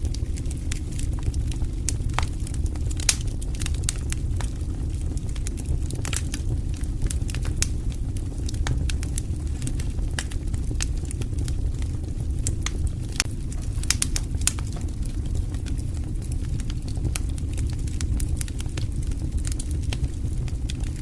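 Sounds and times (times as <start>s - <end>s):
burning wood popping and snapping: 0.0s - 21.0s
low rumble of flames: 0.0s - 21.0s.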